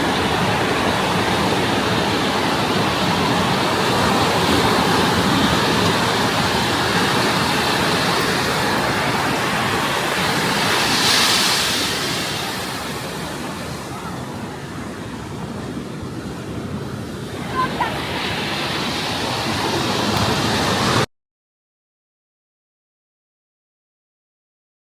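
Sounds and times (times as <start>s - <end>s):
ocean waves: 0.0s - 21.1s.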